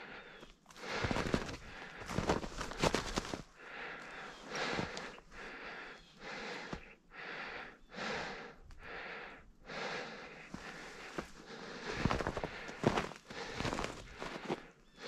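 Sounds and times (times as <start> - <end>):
person breathing close up: 0.0 - 15.0.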